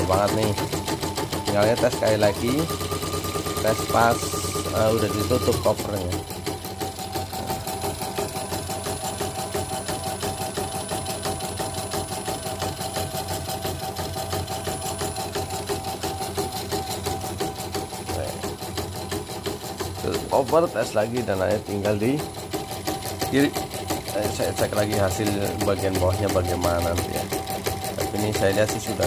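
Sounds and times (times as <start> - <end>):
embroidery machine needle strokes: 0.0 - 29.0
motor hum: 0.0 - 29.0.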